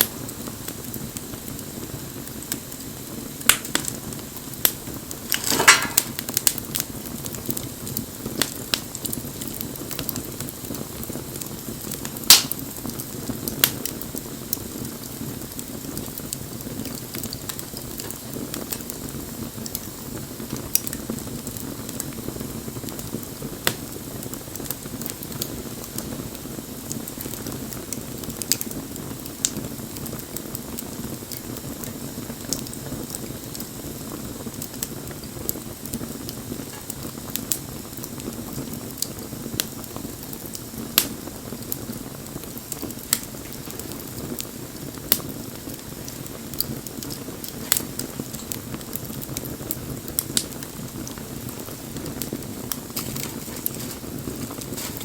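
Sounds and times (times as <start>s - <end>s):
wood crackling and popping: 0.0s - 55.0s
bonfire flames rushing: 0.1s - 55.0s.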